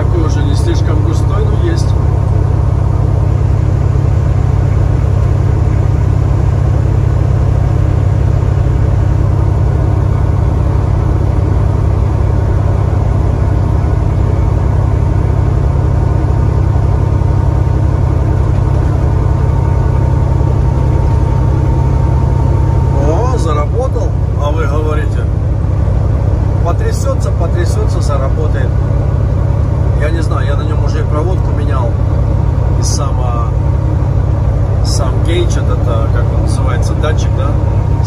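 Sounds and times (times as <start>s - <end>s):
road noise: 0.0s - 38.0s
truck diesel engine droning: 0.0s - 38.0s.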